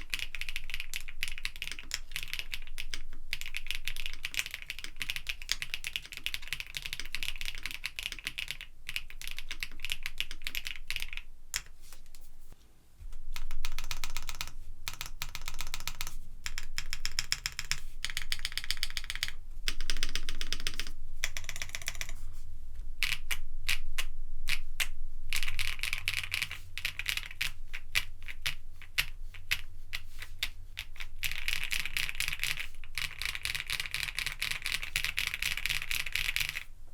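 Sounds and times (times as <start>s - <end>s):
mechanical keyboard typing: 0.0s - 11.7s, 13.4s - 22.2s, 23.0s - 24.7s, 25.3s - 29.7s, 30.8s - 36.7s.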